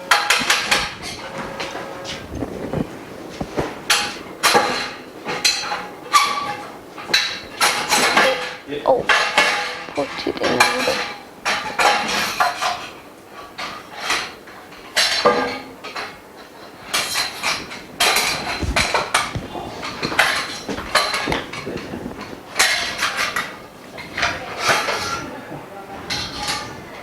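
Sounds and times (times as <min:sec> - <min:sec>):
metal bars clinking and clattering: 0:00.0 - 0:25.4, 0:26.0 - 0:27.0.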